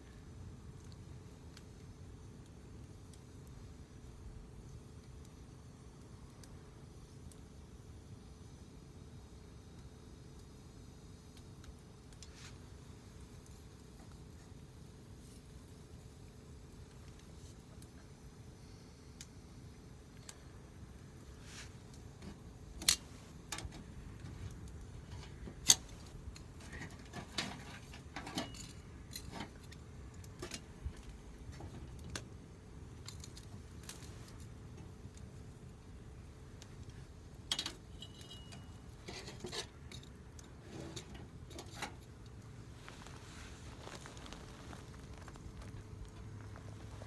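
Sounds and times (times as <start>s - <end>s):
wood fire crackling and popping: 0.0s - 47.0s
fire hissing: 0.2s - 47.0s.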